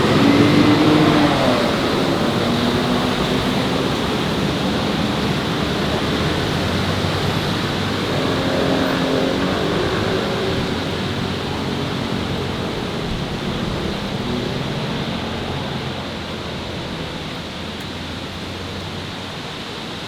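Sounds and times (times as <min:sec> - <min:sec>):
nearby vehicle engine: 0:00.0 - 0:20.0
roar of passing vehicles: 0:00.0 - 0:20.0.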